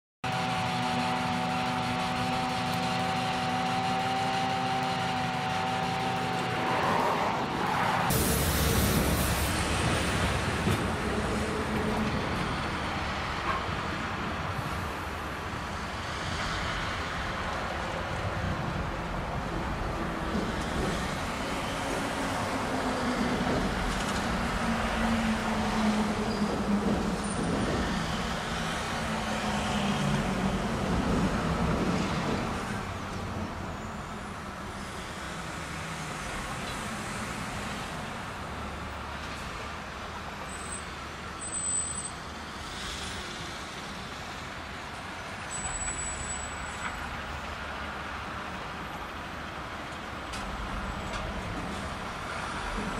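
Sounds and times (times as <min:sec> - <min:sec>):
diesel locomotive engine drone: 0:00.2 - 0:52.9
traffic noise: 0:00.2 - 0:52.9.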